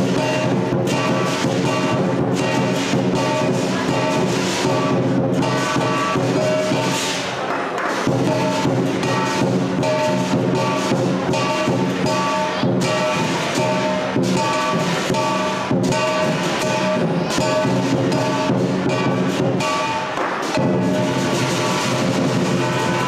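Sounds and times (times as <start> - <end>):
percussion strikes: 0.0 - 23.0.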